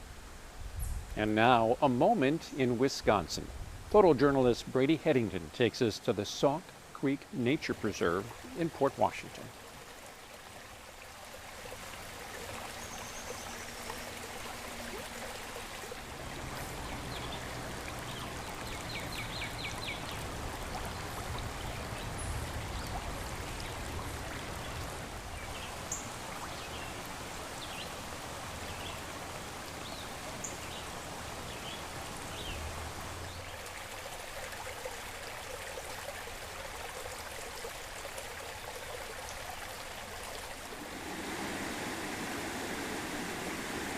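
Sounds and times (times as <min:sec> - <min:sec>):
creek water rushing: 0:01.2 - 0:43.9.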